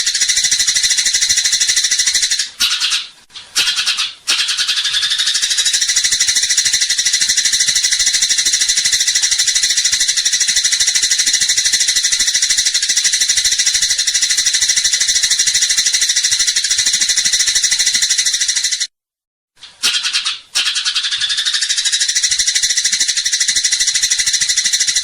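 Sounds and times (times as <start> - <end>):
sparrow chattering: 0.0 - 18.9, 19.8 - 25.0.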